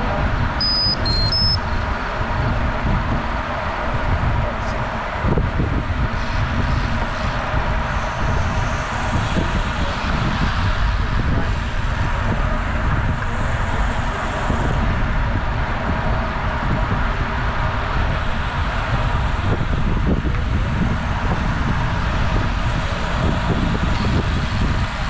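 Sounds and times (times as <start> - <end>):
tyres humming on pavement: 0.0 - 25.0
wind buffeting microphone: 0.0 - 25.0.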